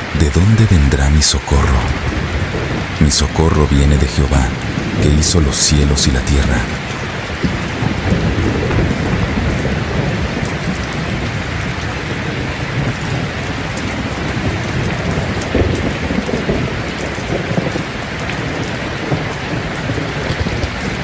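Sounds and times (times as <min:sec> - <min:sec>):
steady rain falling: 0:00.0 - 0:21.0
rolling thunder rumble: 0:01.4 - 0:05.6, 0:06.2 - 0:21.0.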